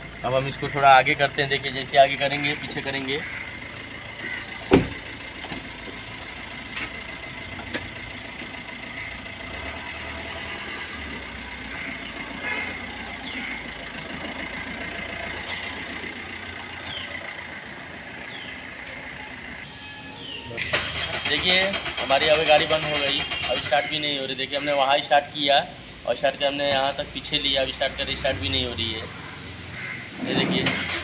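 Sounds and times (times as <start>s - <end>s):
diesel car engine idling: 0.0s - 31.0s.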